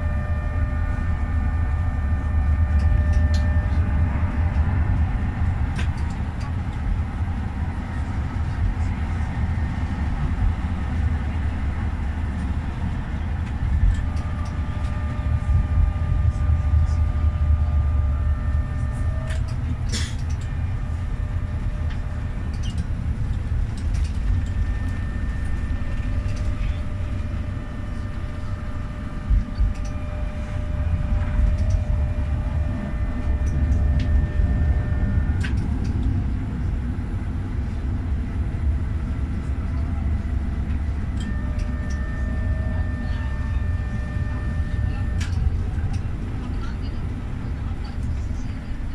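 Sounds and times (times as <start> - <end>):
faint steady whine: 0.0 - 48.9
tram rumbling on rails: 0.0 - 48.9.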